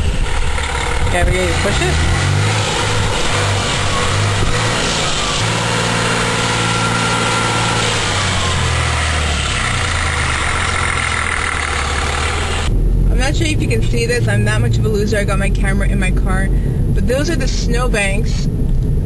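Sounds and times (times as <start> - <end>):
car engine low hum: 0.0 - 19.0.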